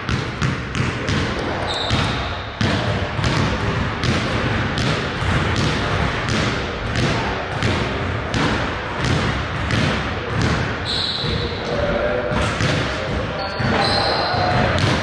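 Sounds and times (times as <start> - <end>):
basketballs bouncing on wood floor: 0.0 - 15.0.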